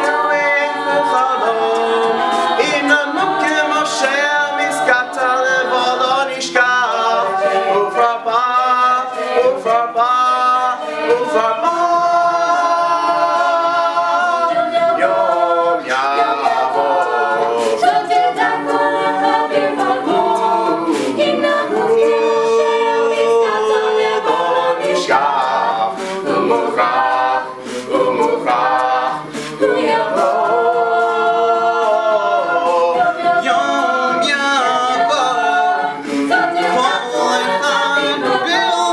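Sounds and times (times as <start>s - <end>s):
a cappella group singing: 0.0s - 38.9s.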